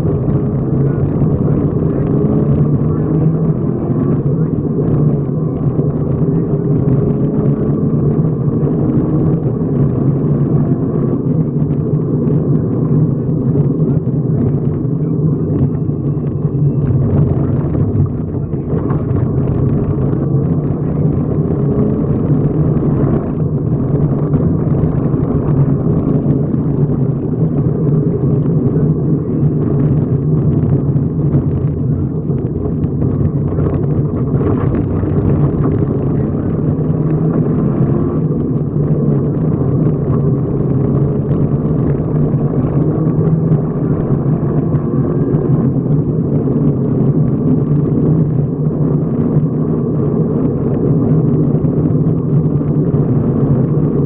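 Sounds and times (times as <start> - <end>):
gravel crackling against car: 0.0 - 54.0
rally car engine: 0.0 - 54.0.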